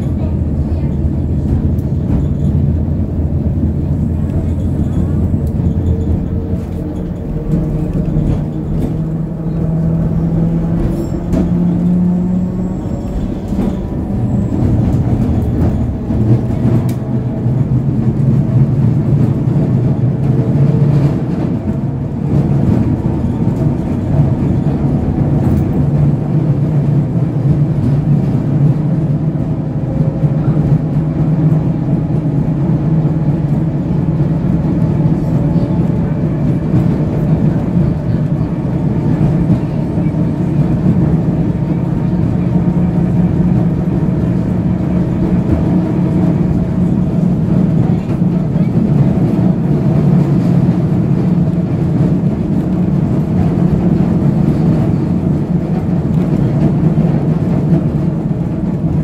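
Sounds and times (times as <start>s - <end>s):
low motor hum: 0.0s - 59.0s
tram rumble: 0.0s - 59.0s
wheels clicking on rails: 0.0s - 59.0s.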